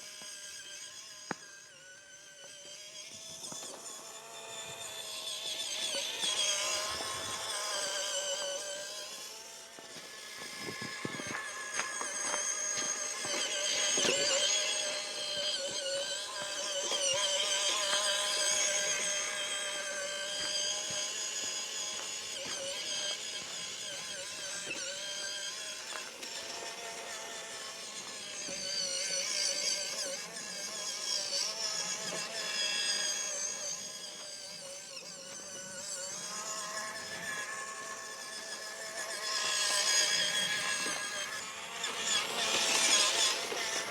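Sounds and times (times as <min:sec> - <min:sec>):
toy car motor whining: 0:00.0 - 0:43.9.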